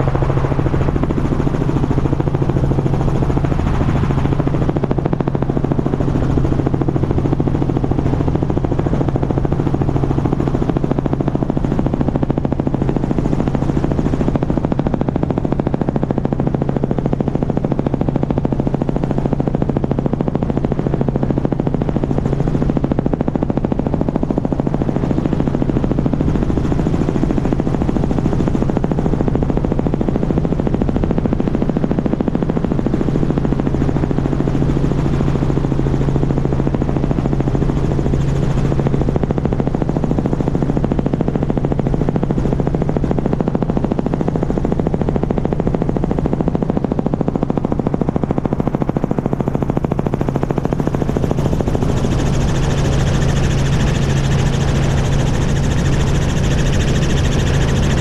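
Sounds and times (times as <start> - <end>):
engine drone: 0.0 - 58.0
helicopter rotor blade chop: 0.0 - 58.0
wind rush on microphone: 0.0 - 58.0.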